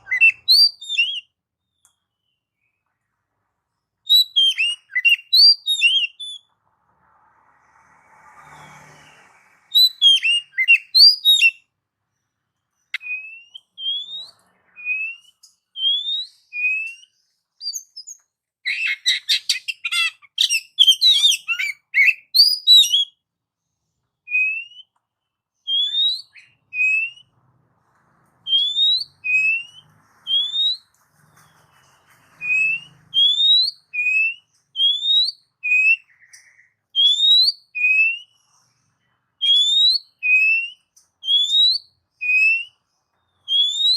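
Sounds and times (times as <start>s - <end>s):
bird singing whistled notes: 0.0s - 2.8s, 4.0s - 6.5s, 8.5s - 11.7s, 12.8s - 23.2s, 24.2s - 25.0s, 25.6s - 27.3s, 28.5s - 38.6s, 39.4s - 43.9s.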